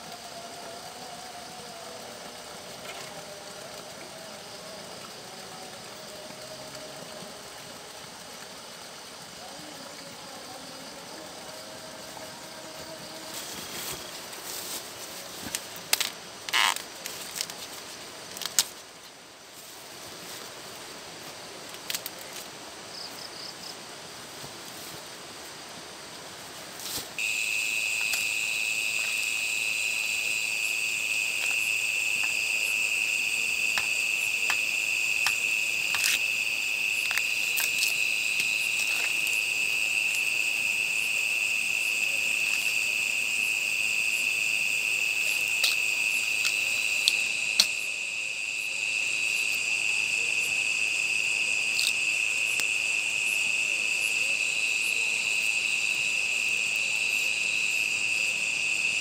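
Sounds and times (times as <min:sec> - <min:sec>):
night insects chirping: 0:00.0 - 0:59.0.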